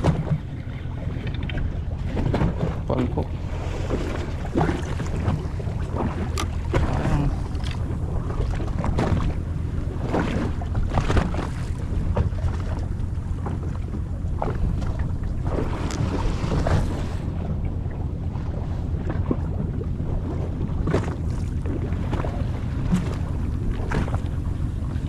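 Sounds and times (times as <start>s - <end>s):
boat motor running: 0.0s - 25.0s
water slapping against hull: 0.0s - 25.0s
wind buffeting microphone: 0.0s - 25.0s.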